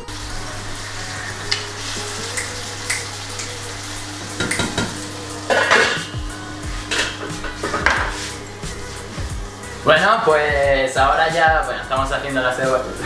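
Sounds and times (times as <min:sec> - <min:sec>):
onion sizzling in a frying pan: 0:00.0 - 0:13.0.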